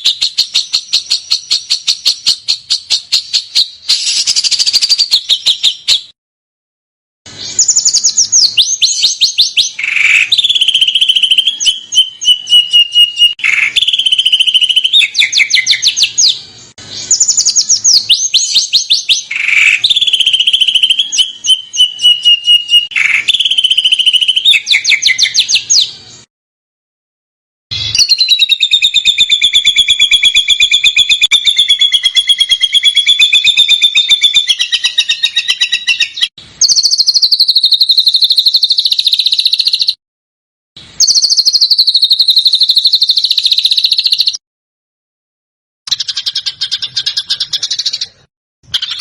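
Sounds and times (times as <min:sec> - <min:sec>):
songbird fast trills: 0:00.0 - 0:06.1, 0:07.4 - 0:25.9, 0:27.7 - 0:40.0, 0:41.0 - 0:44.4.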